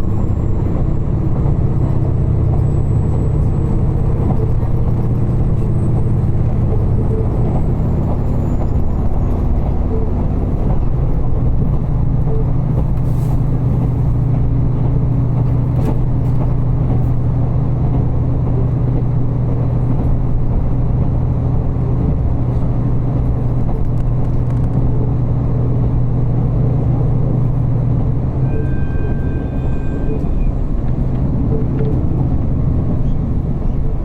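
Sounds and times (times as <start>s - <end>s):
diesel railcar engine hum: 0.0s - 34.0s
wheel and rail rumble: 0.0s - 34.0s.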